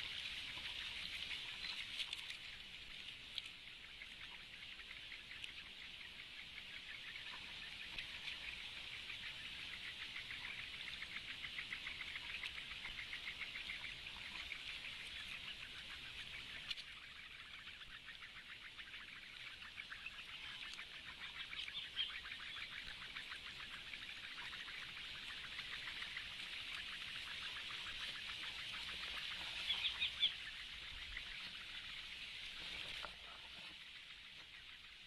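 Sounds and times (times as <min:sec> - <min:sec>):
birds ticking chirps: 0:00.0 - 0:35.0.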